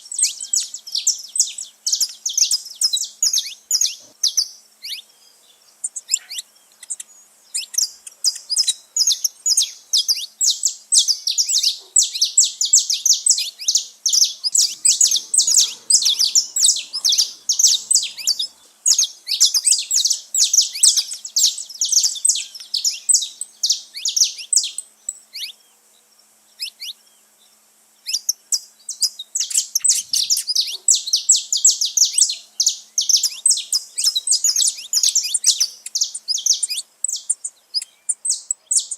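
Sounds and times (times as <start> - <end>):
finches chirping: 0.0 - 25.6, 28.0 - 38.9.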